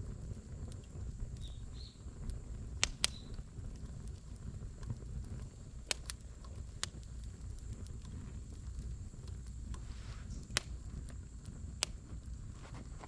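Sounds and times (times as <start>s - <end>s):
campfire crackling and popping: 0.0s - 13.0s
low steady rumble: 0.0s - 13.0s.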